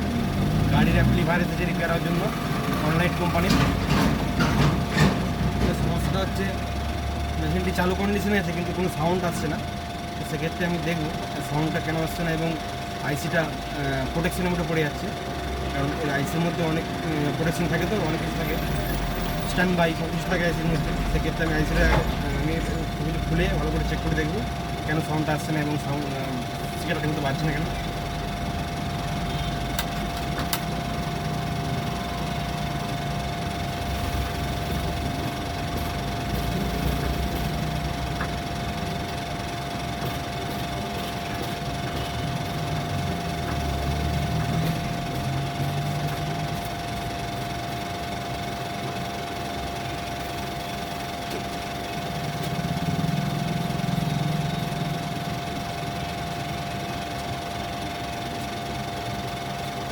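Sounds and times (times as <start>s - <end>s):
mechanical drone with high whine: 6.1s - 56.4s.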